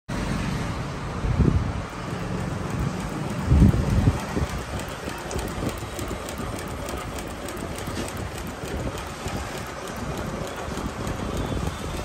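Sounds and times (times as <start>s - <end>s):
sewing machine clattering: 2.0s - 12.0s.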